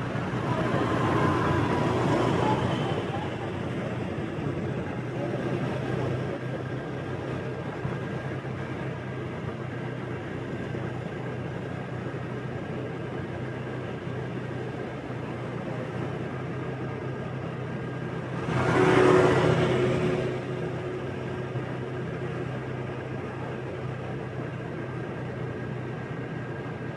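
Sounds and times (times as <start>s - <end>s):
road and traffic noise: 0.0s - 26.9s.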